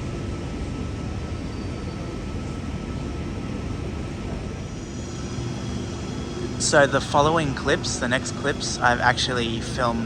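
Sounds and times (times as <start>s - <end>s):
faint high whine: 0.0s - 10.0s
low rumbling drone: 1.5s - 10.0s.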